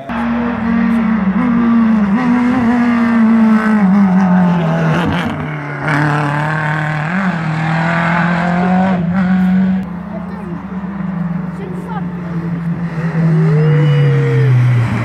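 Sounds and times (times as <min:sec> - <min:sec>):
rally car engine passing: 0:00.0 - 0:15.0.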